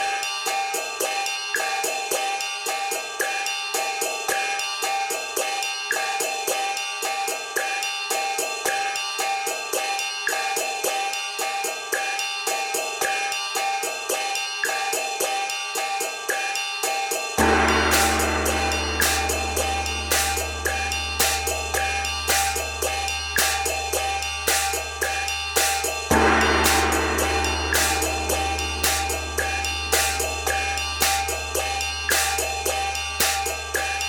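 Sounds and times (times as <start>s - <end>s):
music with drum beat: 0.0s - 34.0s.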